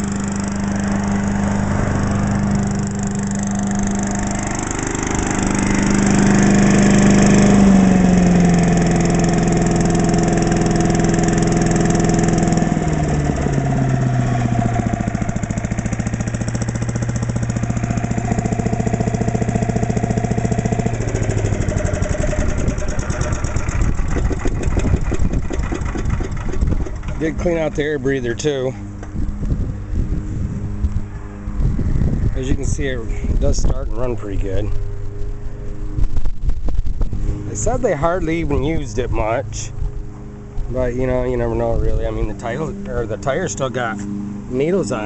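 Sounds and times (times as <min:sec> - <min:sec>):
small engine running: 0:00.0 - 0:45.0.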